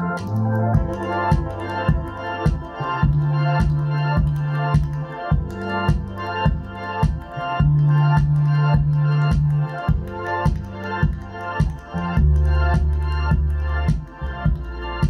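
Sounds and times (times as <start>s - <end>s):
deep held bass notes: 0.0s - 15.0s
music with steady beat from speakers: 0.0s - 15.0s.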